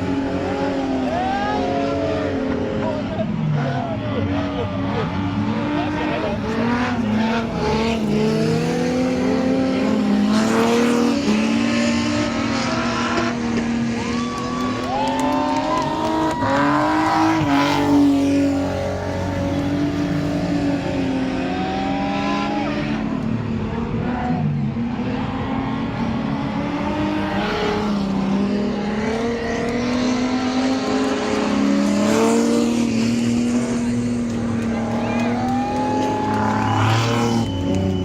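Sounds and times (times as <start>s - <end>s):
race car engines accelerating: 0.0s - 38.0s.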